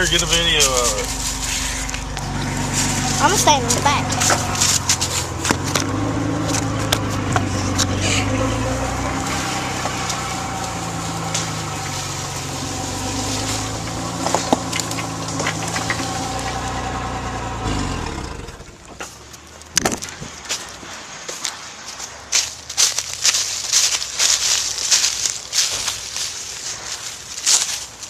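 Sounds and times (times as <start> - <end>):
truck engine running: 0.0 - 28.0
sticks and branches snapping: 0.5 - 17.0, 18.8 - 28.0.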